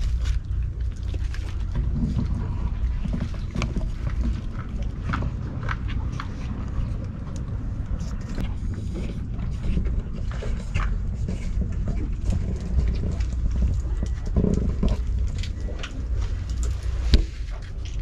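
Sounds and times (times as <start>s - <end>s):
low rumble on microphone: 0.0s - 18.0s.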